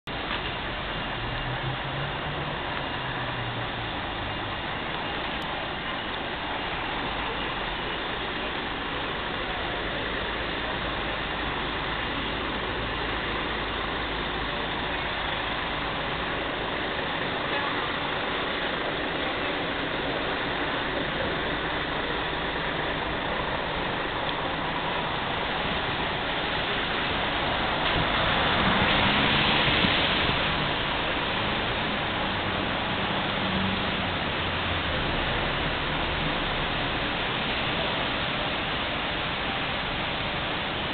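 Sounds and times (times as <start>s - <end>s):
rain hiss: 0.1s - 40.9s
traffic on wet road: 0.1s - 40.9s
vehicle passing with tyre spray: 0.2s - 8.4s, 9.3s - 40.9s.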